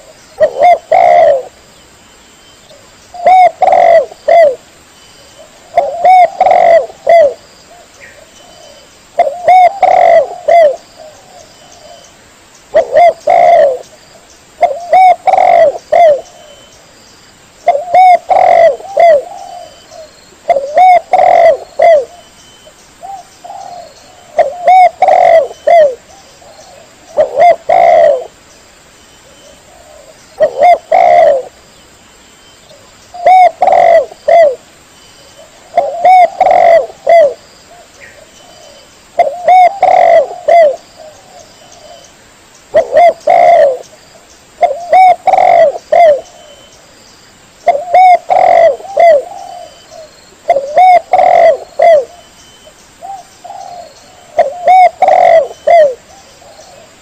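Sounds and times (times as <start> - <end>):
dove cooing: 0.0 - 1.6, 2.7 - 4.6, 5.4 - 12.1, 12.7 - 13.9, 14.6 - 16.7, 17.6 - 22.3, 23.0 - 28.4, 29.2 - 31.6, 32.7 - 34.6, 35.3 - 42.1, 42.7 - 44.0, 44.6 - 46.7, 47.6 - 52.3, 53.0 - 57.0.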